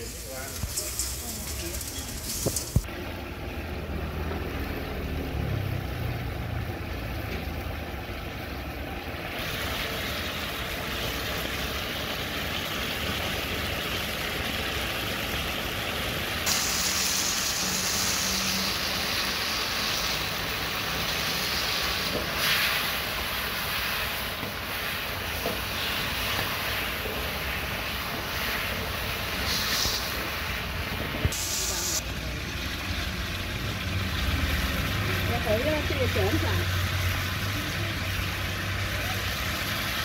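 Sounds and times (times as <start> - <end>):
sauce sizzling in a wok: 0.0 - 40.0.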